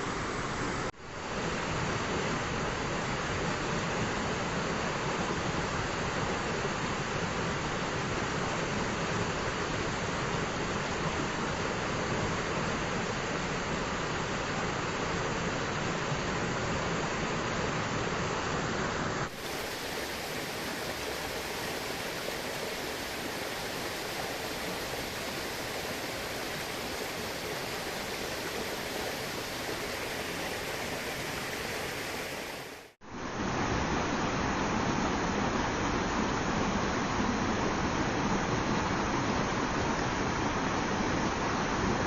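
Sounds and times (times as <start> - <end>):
river water rushing over rocks: 1.4 - 42.0.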